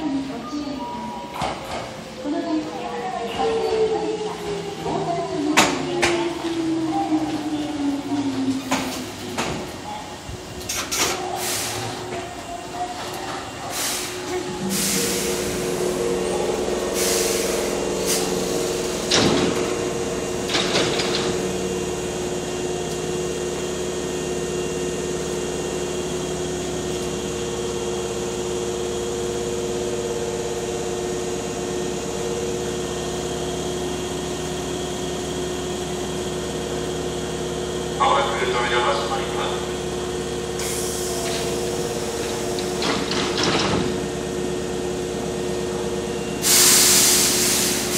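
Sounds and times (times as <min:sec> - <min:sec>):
train equipment humming: 0:00.0 - 0:47.9.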